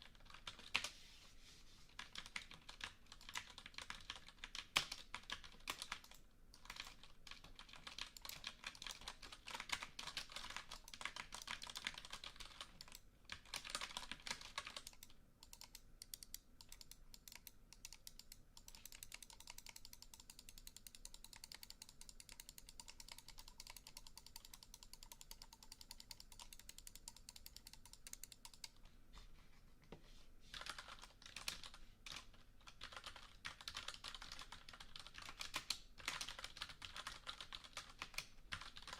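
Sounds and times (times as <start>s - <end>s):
keyboard typing: 2.0s - 28.8s, 30.5s - 38.9s.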